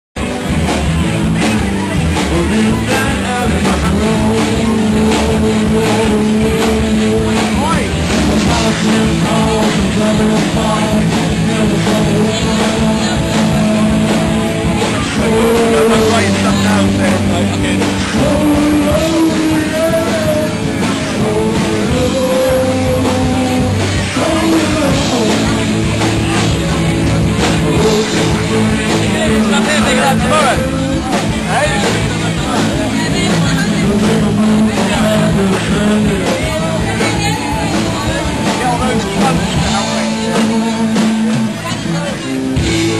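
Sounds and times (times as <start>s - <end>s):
drums keeping a beat: 0.2s - 42.9s
live rock band playing: 0.2s - 42.9s
person singing: 1.4s - 42.9s.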